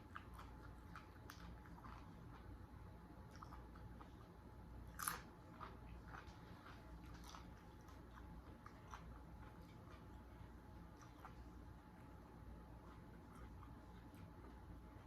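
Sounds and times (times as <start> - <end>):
chewing and crunching chips: 0.0 - 15.0.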